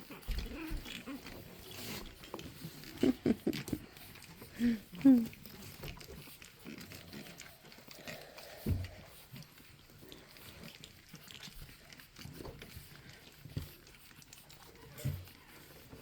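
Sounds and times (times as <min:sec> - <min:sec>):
puppies making small vocal noises: 0:00.0 - 0:16.0.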